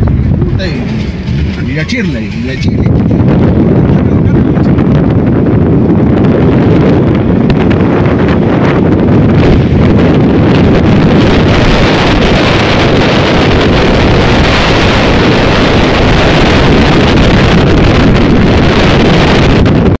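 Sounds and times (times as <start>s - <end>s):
low vehicle rumble: 0.0s - 20.0s
wind buffeting microphone: 0.0s - 20.0s.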